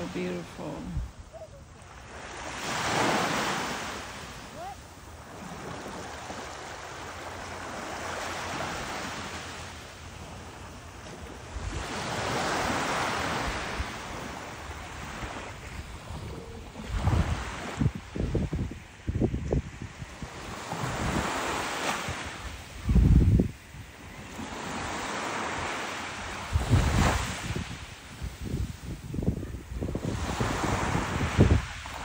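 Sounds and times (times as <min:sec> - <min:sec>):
wind rumbling on microphone: 0:00.0 - 0:04.1, 0:10.1 - 0:32.0
waves washing on sandy shore: 0:00.0 - 0:32.0.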